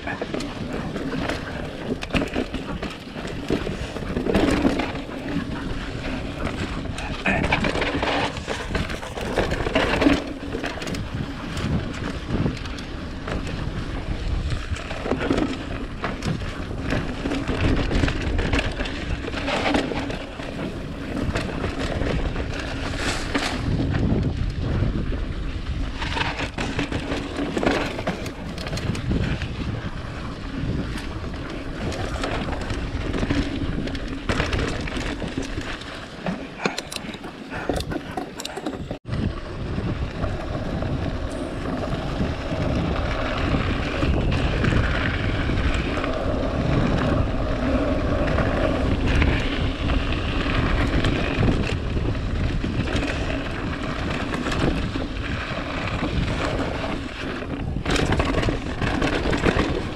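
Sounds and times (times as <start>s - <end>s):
bike rattling over bumps: 0.0s - 59.9s
bike tyres on dirt: 0.0s - 59.9s
wind buffeting microphone: 0.0s - 59.9s.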